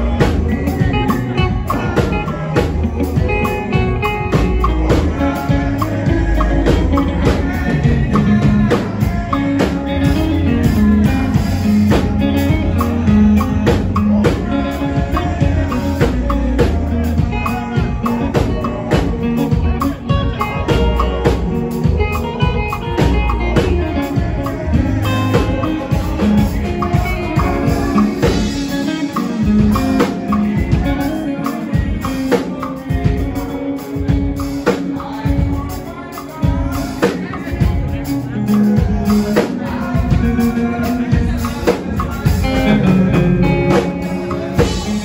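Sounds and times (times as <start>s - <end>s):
live band playing highlife: 0.0s - 45.0s.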